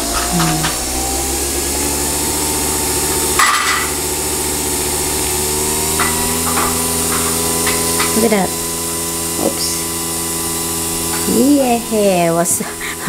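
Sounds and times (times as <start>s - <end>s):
coffee machine motor humming: 0.0s - 13.0s.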